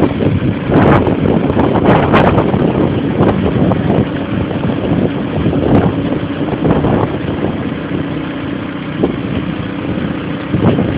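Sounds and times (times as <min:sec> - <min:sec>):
engine idling: 0:00.0 - 0:10.9
wind buffeting microphone: 0:00.0 - 0:10.9.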